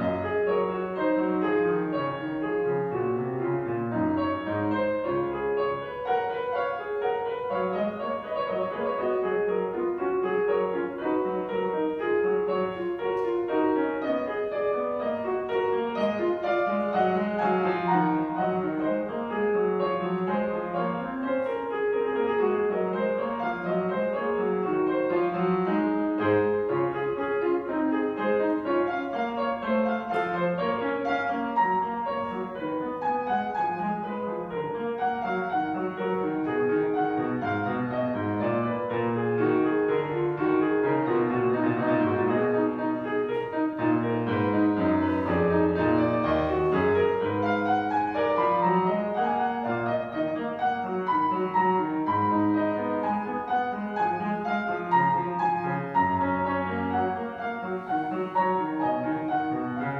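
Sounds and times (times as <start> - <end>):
solo classical piano piece: 0.0 - 59.9.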